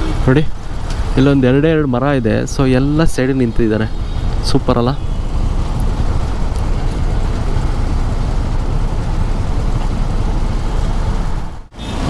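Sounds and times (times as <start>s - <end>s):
city street traffic rumble: 0.0s - 12.0s.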